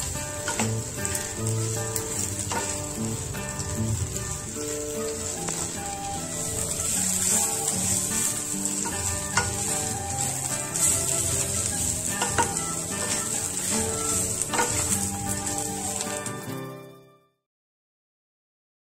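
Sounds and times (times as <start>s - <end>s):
spatula scraping in pan: 0.0s - 16.5s
frying sizzle: 0.0s - 16.7s
soft background music: 0.0s - 17.3s.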